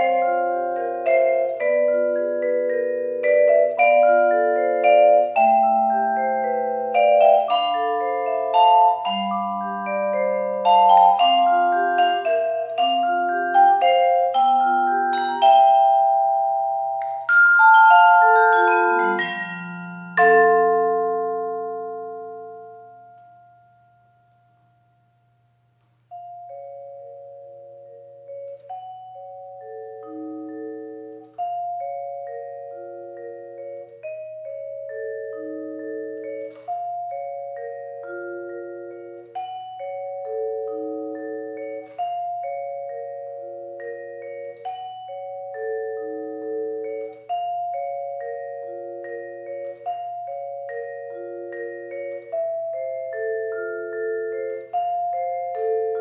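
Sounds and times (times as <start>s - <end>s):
vibraphone played with mallets: 0.0s - 24.2s, 26.1s - 56.0s.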